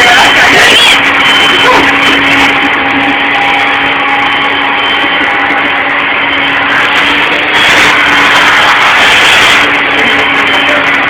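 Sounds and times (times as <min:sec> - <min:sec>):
blow dryer running: 0:00.0 - 0:11.0.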